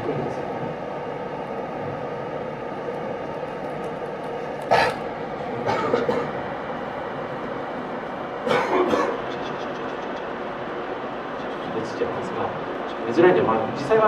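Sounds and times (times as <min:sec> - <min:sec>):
steady rushing background noise: 0:00.0 - 0:14.0.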